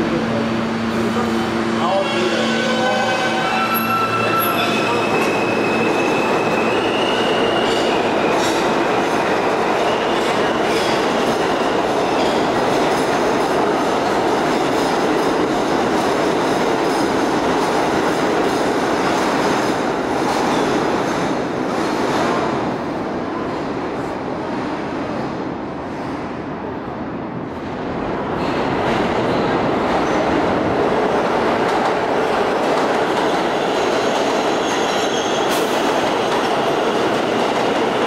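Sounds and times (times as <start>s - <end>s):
subway train wheels rumbling: 0.0s - 38.0s.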